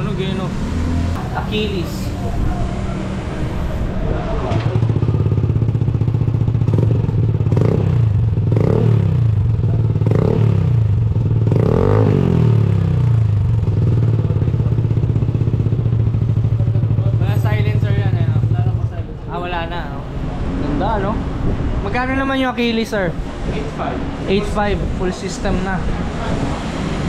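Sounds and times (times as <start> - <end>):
motorcycle engine revving and idling: 0.0 - 22.2.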